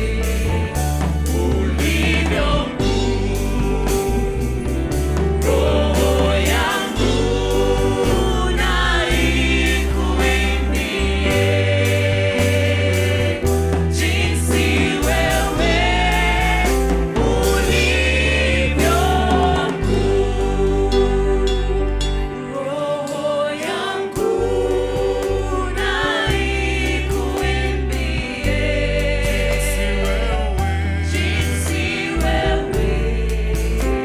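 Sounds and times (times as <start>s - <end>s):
steady drum beat: 0.0s - 22.0s, 23.6s - 34.0s
sustained bass notes: 0.0s - 22.6s, 24.2s - 34.0s
group singing worship song: 0.0s - 34.0s.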